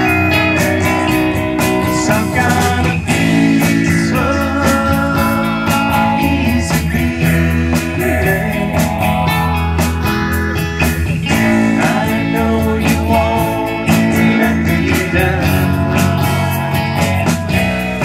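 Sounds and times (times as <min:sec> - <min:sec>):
live band playing guitar music: 0:00.0 - 0:18.0.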